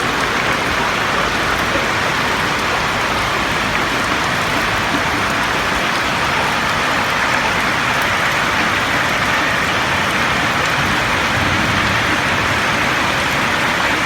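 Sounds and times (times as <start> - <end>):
heavy rain on a roof: 0.0 - 14.0.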